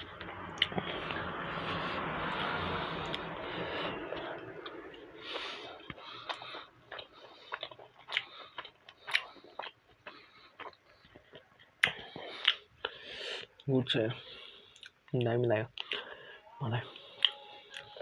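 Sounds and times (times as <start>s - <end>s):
person chewing food: 0.0s - 16.2s, 16.8s - 18.0s.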